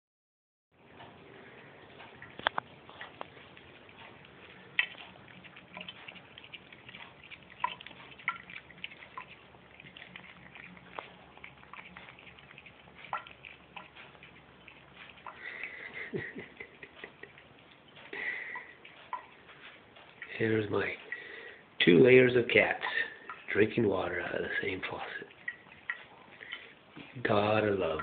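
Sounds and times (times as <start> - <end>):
cats lapping water: 0.8 - 28.0
dripping water: 0.8 - 28.0.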